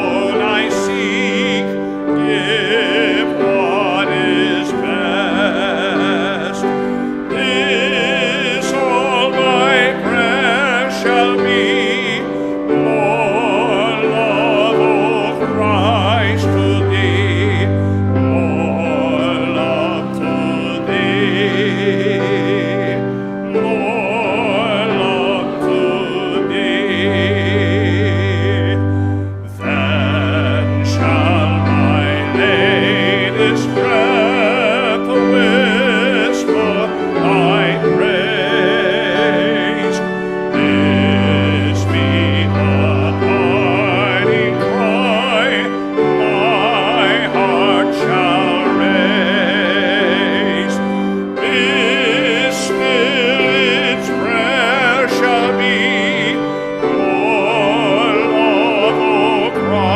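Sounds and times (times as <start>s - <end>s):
singing with strong vibrato: 0.0s - 59.9s.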